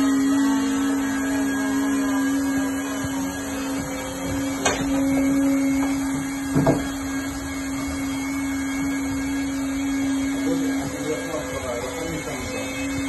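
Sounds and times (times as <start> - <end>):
welding machine motor and blower hum: 0.0 - 13.0.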